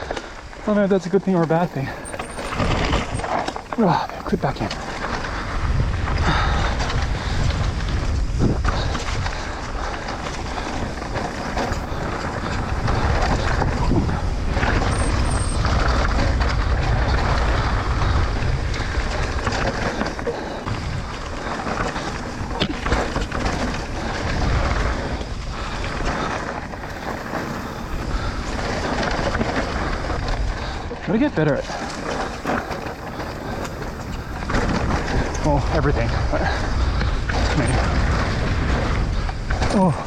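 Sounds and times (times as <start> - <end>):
bike rattling over bumps: 0.0 - 40.0
tyres rumbling on dirt: 0.0 - 40.0
wind buffeting microphone: 0.0 - 40.0.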